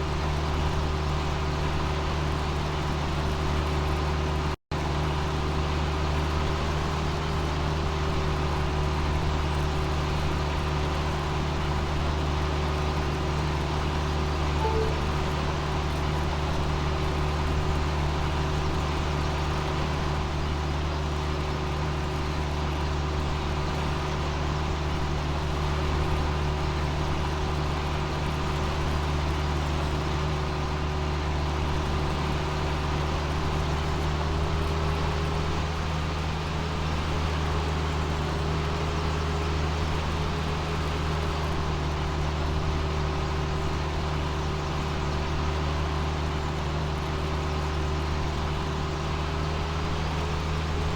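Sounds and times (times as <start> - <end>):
constant engine whine: 0.0 - 50.9
diesel engine drone: 0.0 - 50.9.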